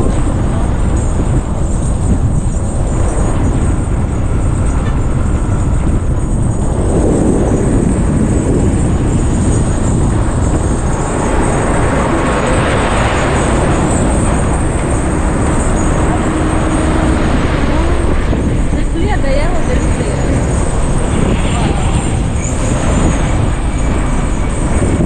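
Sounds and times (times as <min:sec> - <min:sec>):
vehicle road and wind noise: 0:00.0 - 0:25.0.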